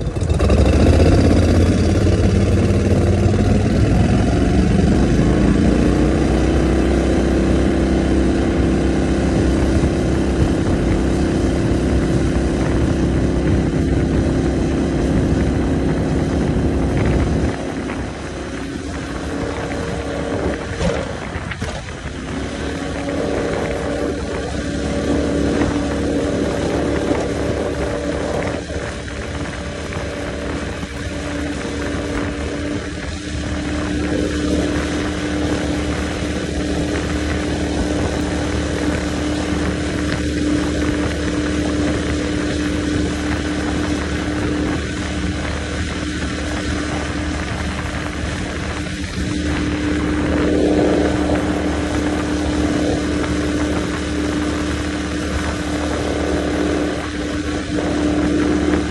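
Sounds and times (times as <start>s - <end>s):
outboard motor drone: 0.0s - 58.9s
wind and water rushing: 0.0s - 58.9s.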